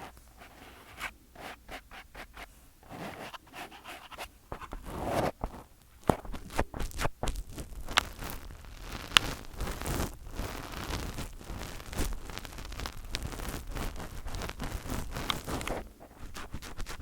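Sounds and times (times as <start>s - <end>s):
fingers rubbing on microphone: 0.0s - 17.0s.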